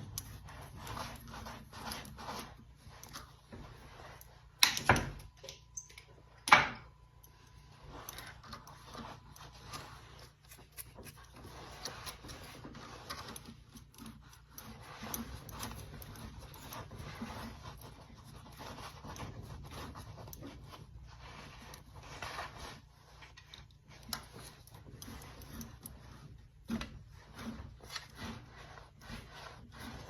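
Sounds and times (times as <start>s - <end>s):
small clicks rattles and scrapes: 0.0s - 6.4s, 7.0s - 30.0s.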